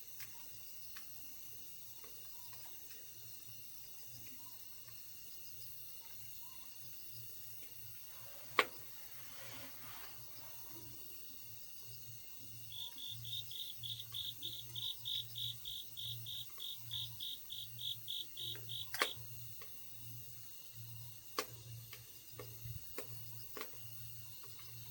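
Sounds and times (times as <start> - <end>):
insect chirping: 0.0 - 24.9.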